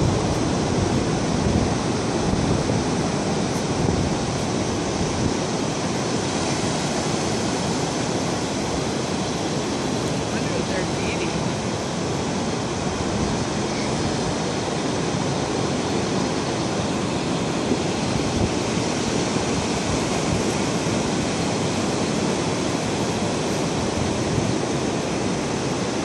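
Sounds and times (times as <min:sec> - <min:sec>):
ocean surf: 0:00.0 - 0:26.0
wind buffeting microphone: 0:00.0 - 0:26.0.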